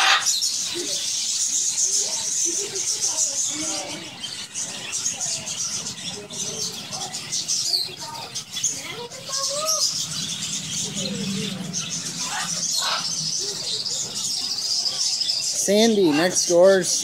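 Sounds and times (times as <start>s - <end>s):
lower bird calls: 0.0s - 2.1s, 3.2s - 17.0s
budgerigars twittering: 0.0s - 17.0s.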